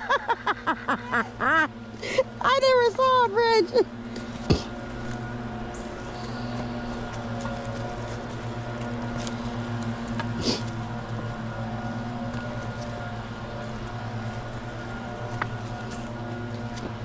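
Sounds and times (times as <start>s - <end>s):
motor drone: 0.0s - 17.0s.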